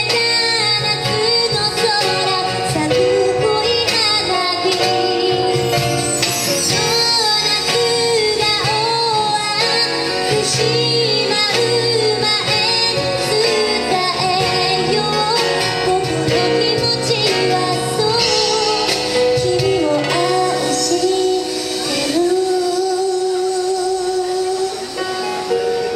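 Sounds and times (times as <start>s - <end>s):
band playing: 0.0s - 25.9s
woman singing a ballad: 0.0s - 25.9s.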